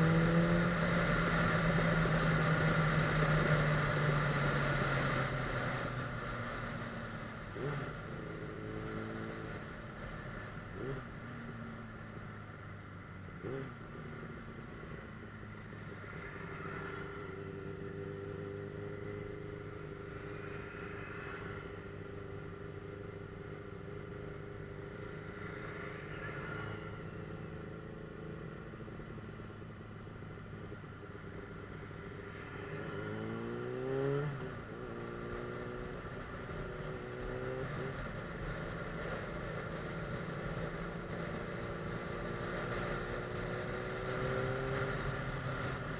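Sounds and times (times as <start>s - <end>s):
motorcycle engine revving: 0.0s - 11.8s, 13.3s - 45.9s.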